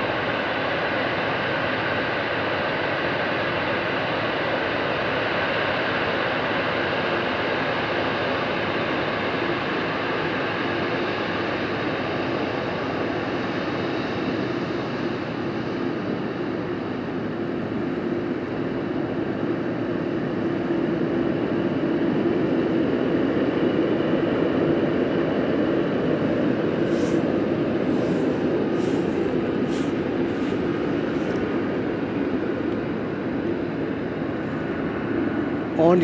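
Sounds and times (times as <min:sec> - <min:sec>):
jet engines roaring while taxiing: 0:00.0 - 0:36.0.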